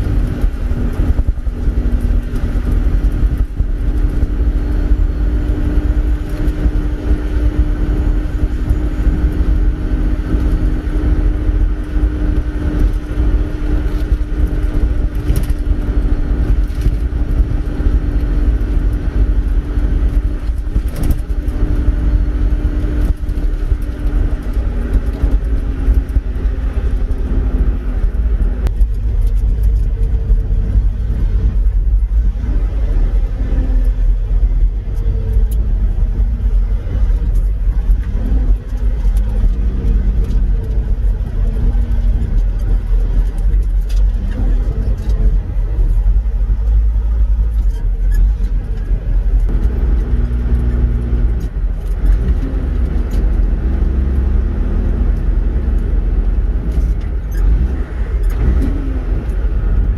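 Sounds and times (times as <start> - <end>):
road rumble: 0.0 - 59.9
truck engine running: 0.0 - 59.9.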